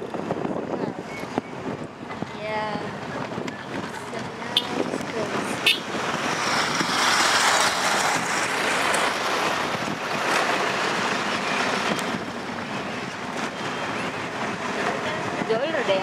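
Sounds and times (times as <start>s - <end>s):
road and engine noise: 0.0s - 16.0s
wind rushing over microphone: 0.0s - 16.0s.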